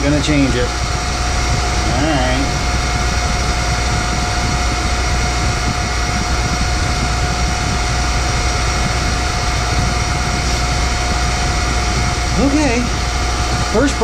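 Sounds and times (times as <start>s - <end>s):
noisy spindle bearings: 0.0s - 14.0s
surface grinder high whine: 0.0s - 14.0s.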